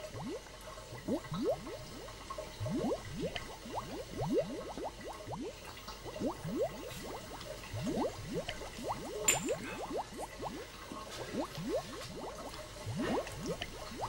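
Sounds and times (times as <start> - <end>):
liquid bubbling in glassware: 0.0 - 14.0.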